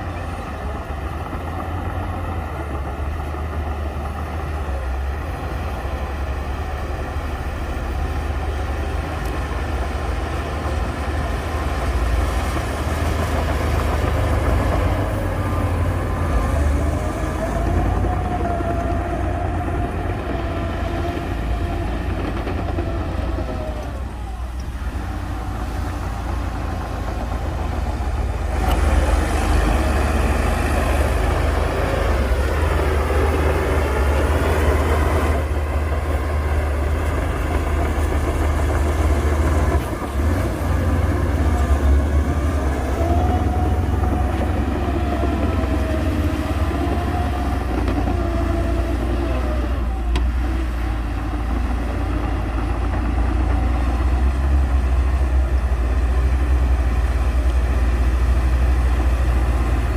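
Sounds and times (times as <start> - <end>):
heavy diesel engine rumbling: 0.0 - 59.9.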